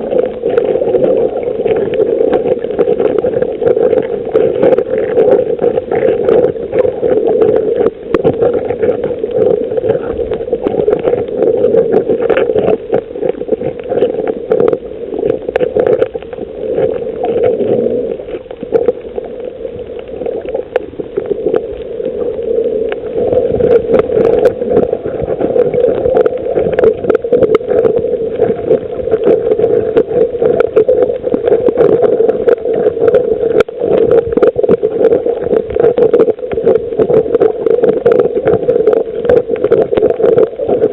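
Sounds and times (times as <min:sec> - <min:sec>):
steady droning hum: 0:00.0 - 0:40.9
underwater crackle of clicks: 0:00.0 - 0:40.9.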